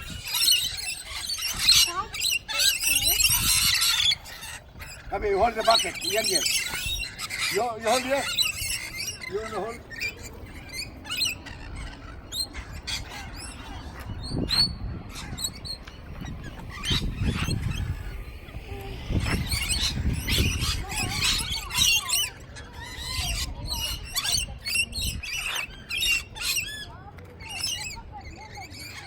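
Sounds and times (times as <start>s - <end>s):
parrots chirping and screeching: 0.0s - 29.0s.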